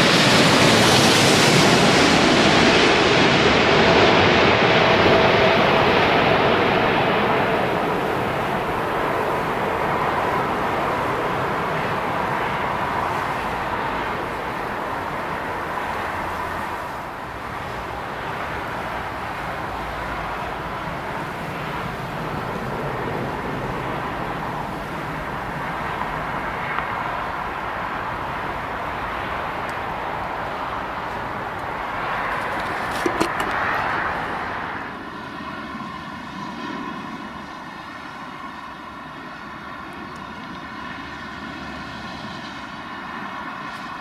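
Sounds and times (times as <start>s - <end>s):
jet engine noise: 0.0s - 44.0s.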